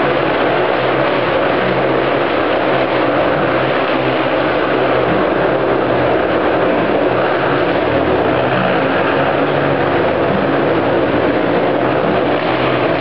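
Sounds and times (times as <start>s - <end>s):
motorcycle engines droning: 0.0s - 13.0s.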